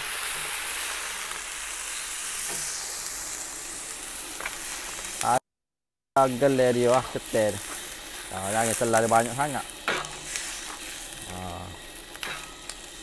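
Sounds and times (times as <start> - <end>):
food sizzling in hot oil: 0.0 - 5.4, 6.2 - 13.0.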